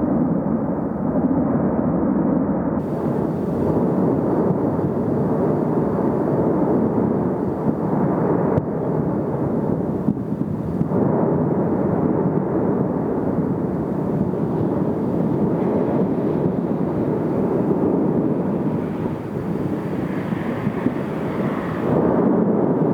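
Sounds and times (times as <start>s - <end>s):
volcano vent rushing: 2.8s - 22.9s.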